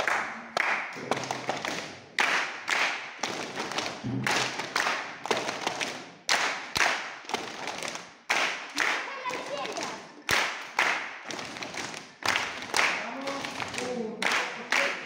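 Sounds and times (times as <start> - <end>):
echoing hand claps: 0.0 - 15.0.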